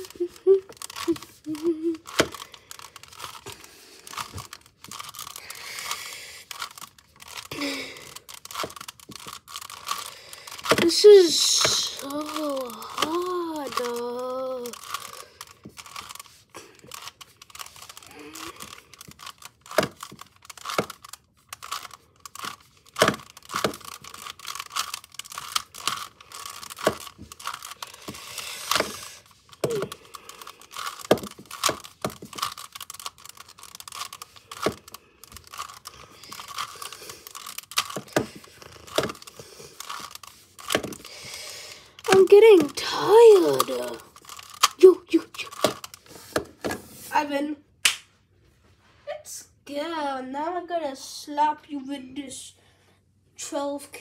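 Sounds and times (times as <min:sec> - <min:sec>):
puzzle cube clicking and rattling: 0:00.0 - 0:47.2.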